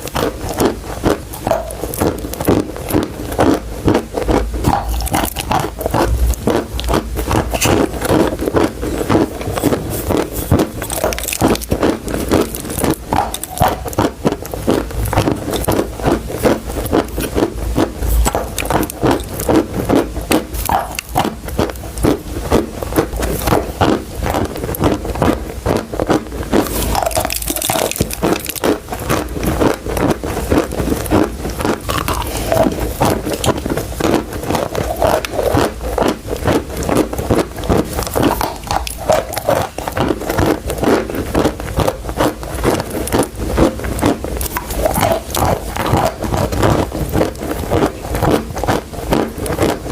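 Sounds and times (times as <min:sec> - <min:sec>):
chalk being bitten and chewed: 0:00.0 - 0:49.9.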